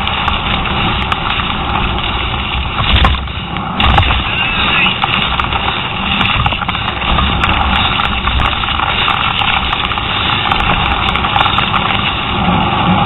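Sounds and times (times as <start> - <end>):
bike clicks and rattles: 0.0 - 13.0
bike tyres on dirt: 0.0 - 13.0
wind rushing: 0.0 - 13.0.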